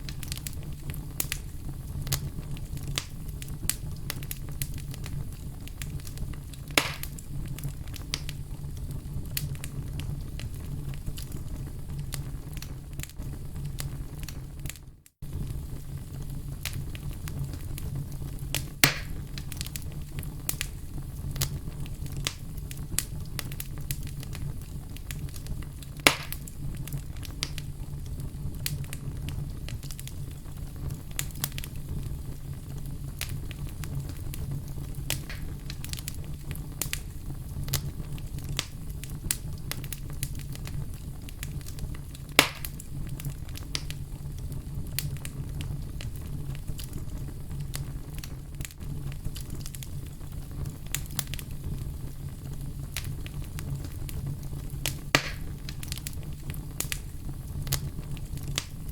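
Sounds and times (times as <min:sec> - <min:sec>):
fire pops: 0:00.0 - 0:58.9
wood fire crackling: 0:00.0 - 0:58.9.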